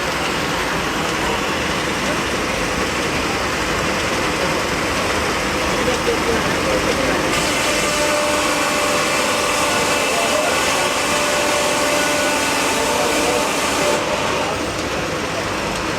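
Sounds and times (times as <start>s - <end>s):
sawmill machinery running: 0.0s - 15.9s.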